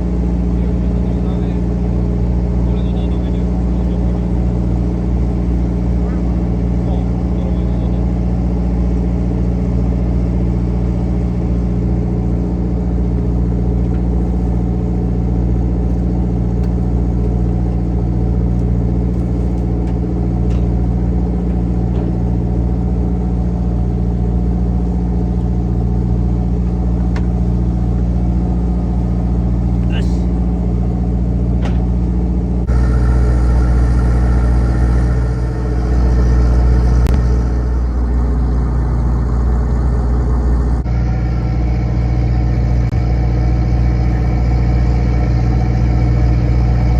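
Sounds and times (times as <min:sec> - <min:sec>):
boat engine droning: 0:00.0 - 0:46.9.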